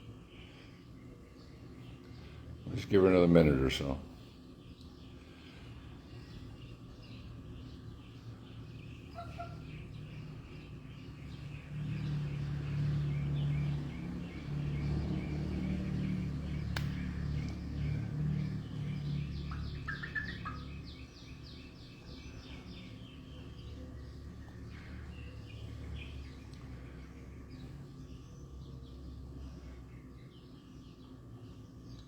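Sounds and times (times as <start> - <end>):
birds chirping: 0.0 - 32.0
low steady hum: 0.0 - 32.0.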